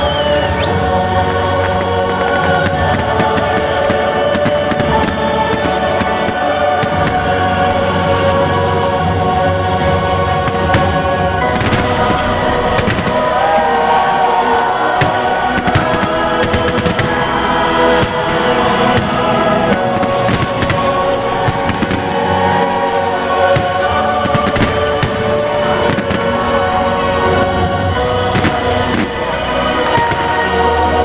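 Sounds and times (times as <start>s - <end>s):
fireworks bangs: 0.0s - 31.0s
loud music with choir: 0.0s - 31.0s.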